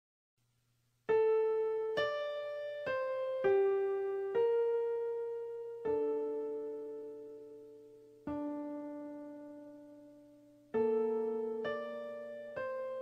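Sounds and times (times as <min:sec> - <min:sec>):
slow keyboard melody: 0:01.1 - 0:13.0.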